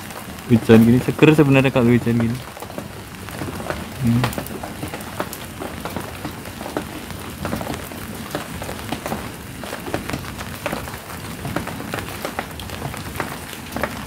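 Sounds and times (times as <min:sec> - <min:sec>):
raindrops ticking: 0:00.0 - 0:14.0
steady rain: 0:00.0 - 0:14.0.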